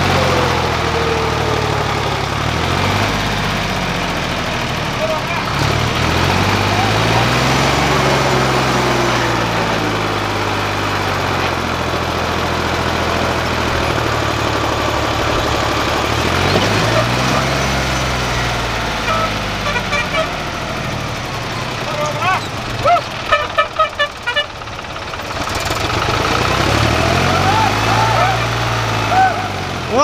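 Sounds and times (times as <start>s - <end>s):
tractor diesel engine straining: 0.0s - 30.0s.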